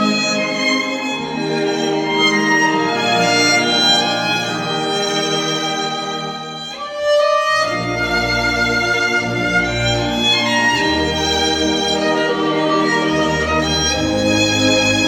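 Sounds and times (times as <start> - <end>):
orchestral strings accompaniment: 0.0 - 15.0
solo violin melody: 0.0 - 15.0.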